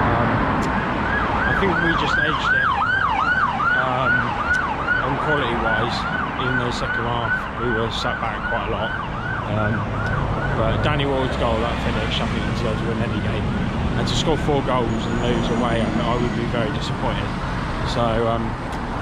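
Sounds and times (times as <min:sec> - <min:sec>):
siren yelping: 0:00.6 - 0:17.1.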